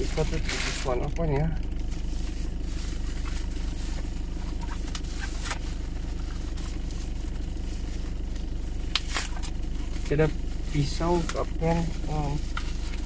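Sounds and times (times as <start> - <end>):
car engine idling: 0.0 - 13.0
plastic packaging crinkling: 0.0 - 13.0.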